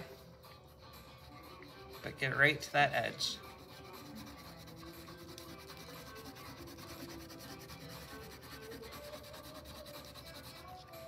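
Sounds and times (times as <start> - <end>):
crayon scrubbing on paper: 1.0 - 11.0.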